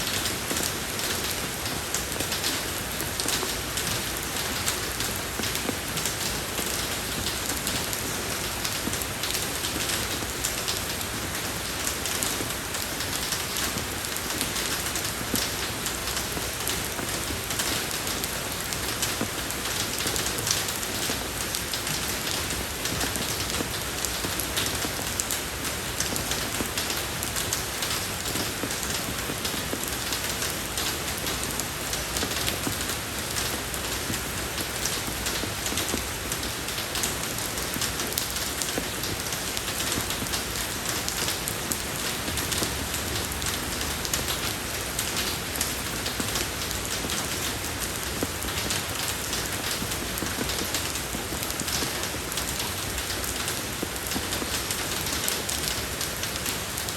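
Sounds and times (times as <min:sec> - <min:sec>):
rain falling on a road: 0:00.0 - 0:56.9.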